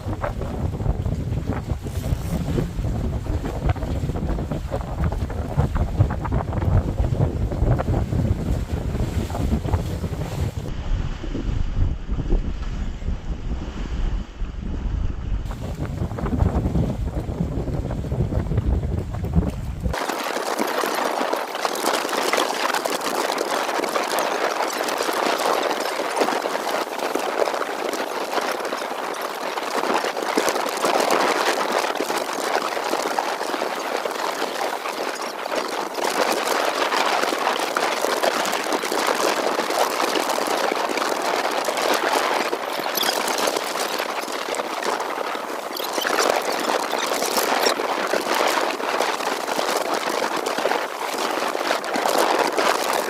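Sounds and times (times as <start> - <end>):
choppy water: 0.0 - 53.0
strong wind: 0.0 - 53.0.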